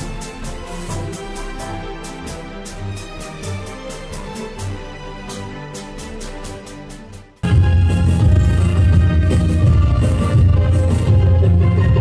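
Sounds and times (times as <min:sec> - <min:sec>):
intro music with sustained chords: 0:00.0 - 0:12.0.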